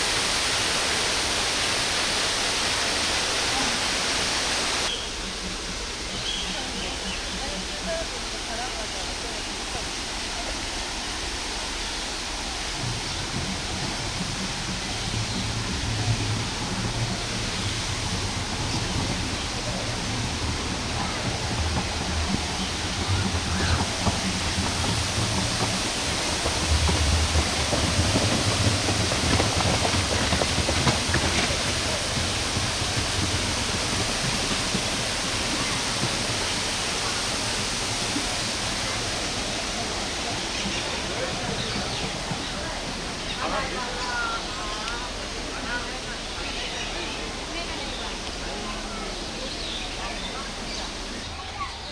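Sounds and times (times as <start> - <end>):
rushing falling water: 0.0 - 51.9.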